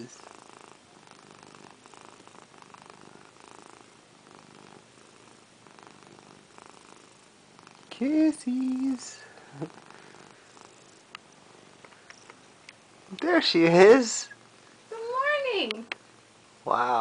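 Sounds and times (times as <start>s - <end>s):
cat purring: 0.0s - 15.2s.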